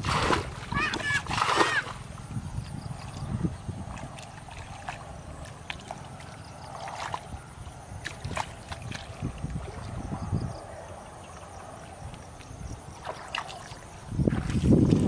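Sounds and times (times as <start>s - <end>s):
footsteps wading through muddy water: 0.0s - 10.2s, 11.2s - 15.0s.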